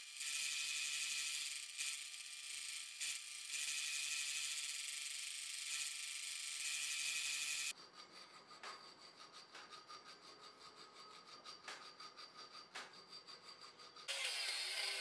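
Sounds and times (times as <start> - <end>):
hand file rasping metal: 0.0 - 15.0.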